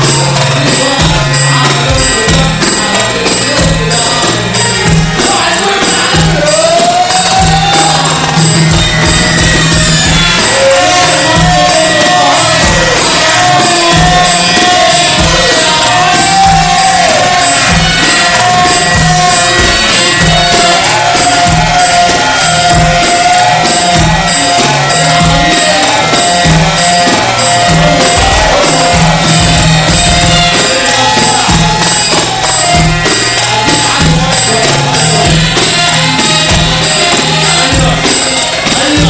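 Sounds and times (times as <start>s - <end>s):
electronic street music with echo: 0.0s - 39.0s.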